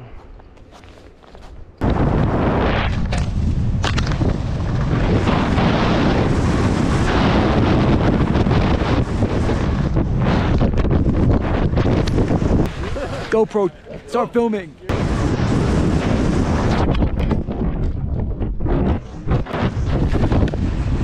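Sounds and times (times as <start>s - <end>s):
wind buffeting microphone: 1.8s - 21.0s.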